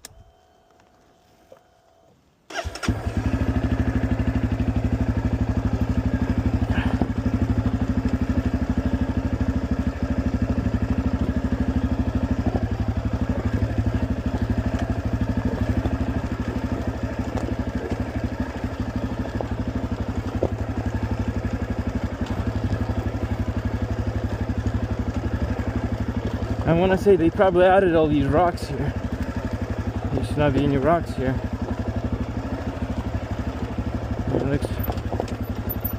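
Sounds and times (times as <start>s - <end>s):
dirt bike engine at low revs: 2.9s - 35.9s.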